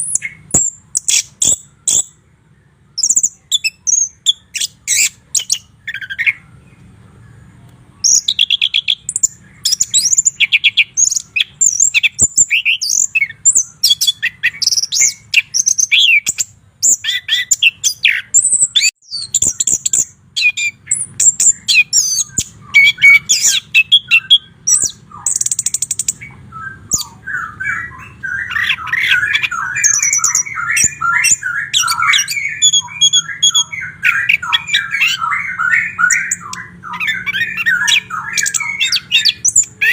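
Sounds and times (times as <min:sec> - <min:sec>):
bird singing whistles and trills: 0:00.0 - 0:39.9
low bird chattering: 0:00.0 - 0:39.9.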